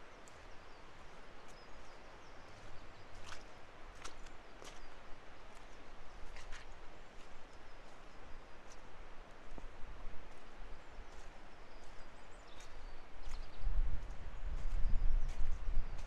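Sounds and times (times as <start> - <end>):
steady outdoor hiss: 0.0 - 13.6
footsteps on muddy path: 0.0 - 16.0.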